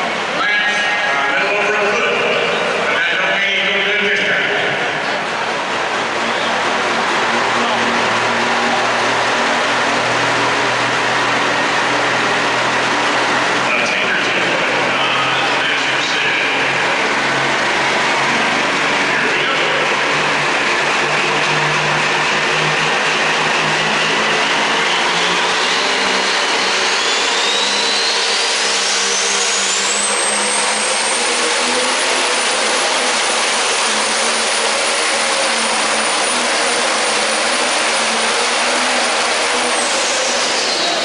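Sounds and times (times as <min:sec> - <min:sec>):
diesel engine running flat out: 0:00.0 - 0:41.0
turbocharger whine: 0:00.0 - 0:41.0.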